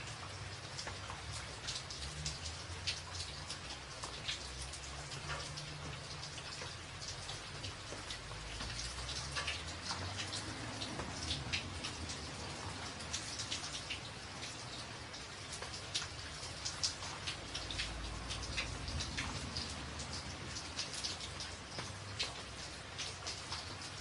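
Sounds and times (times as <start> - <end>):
rain on a tin roof: 0.0 - 24.0.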